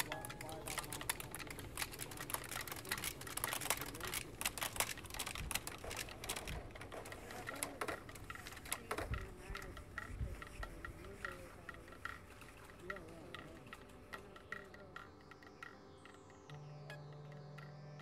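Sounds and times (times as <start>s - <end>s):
electronic clicks and clattering: 0.0s - 18.0s.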